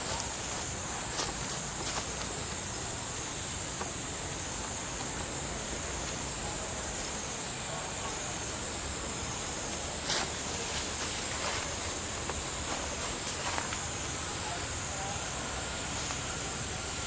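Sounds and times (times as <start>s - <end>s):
high-pitched insect drone: 0.0s - 17.0s
outdoor background hiss: 0.0s - 17.0s.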